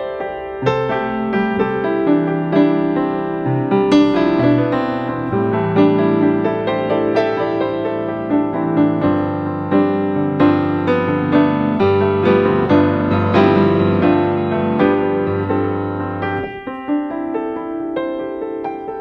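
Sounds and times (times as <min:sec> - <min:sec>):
piano melody: 0:00.0 - 0:19.0
sustained piano bass notes: 0:00.0 - 0:19.0.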